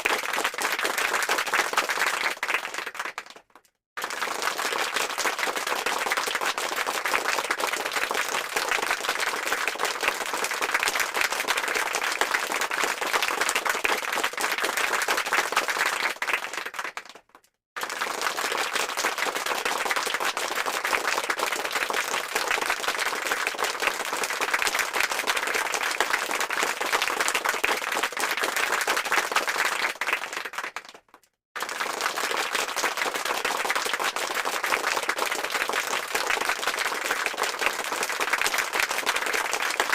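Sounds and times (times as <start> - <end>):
crowd applause: 0.0 - 3.4, 4.0 - 17.2, 17.8 - 31.0, 31.6 - 39.9.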